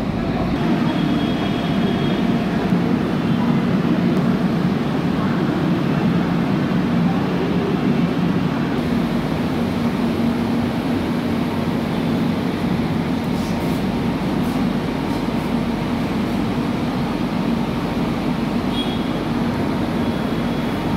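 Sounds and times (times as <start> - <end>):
electric train hum and rumble: 0.0 - 20.9.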